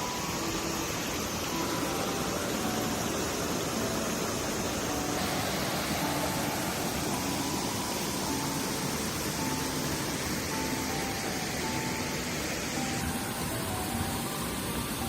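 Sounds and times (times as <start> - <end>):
faint background music: 0.0 - 15.0
steady rushing noise: 0.0 - 15.0.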